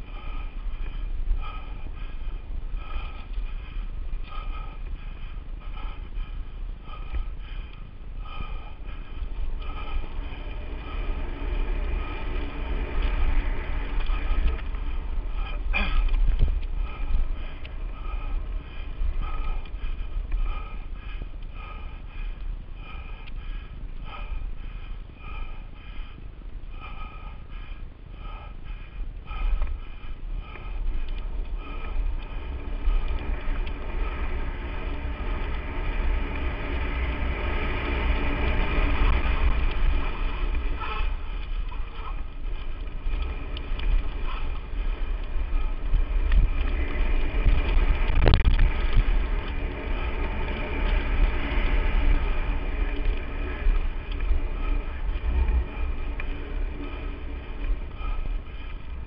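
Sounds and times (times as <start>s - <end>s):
bike rattling: 0.0s - 59.0s
bike tyres on dirt: 0.0s - 59.0s
wind rumble on microphone: 0.0s - 59.0s.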